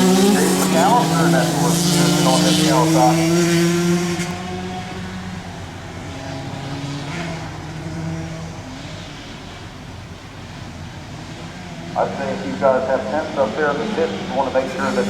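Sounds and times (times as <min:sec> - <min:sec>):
racing engines passing: 0:00.0 - 0:15.0.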